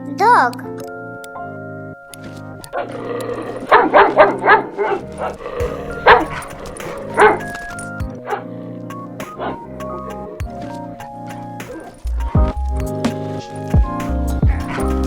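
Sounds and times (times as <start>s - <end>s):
background music: 0.0s - 15.0s
dog barking: 2.1s - 15.0s.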